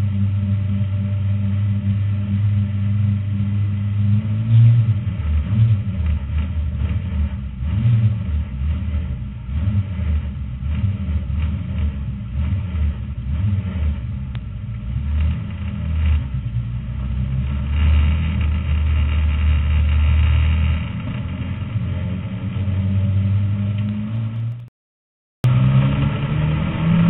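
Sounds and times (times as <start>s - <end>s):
race car engine rumbling: 0.0s - 24.7s, 25.4s - 27.0s.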